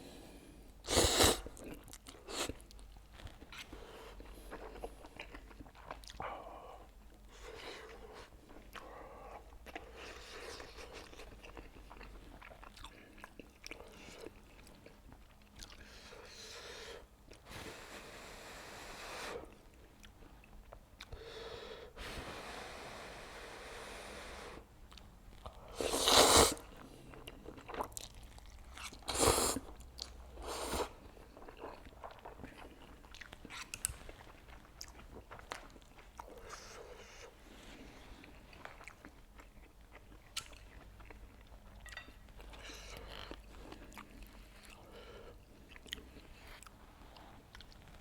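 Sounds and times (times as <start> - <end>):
chewing and wet mouth sounds: 1.3 - 17.5, 19.5 - 21.3, 24.8 - 48.0.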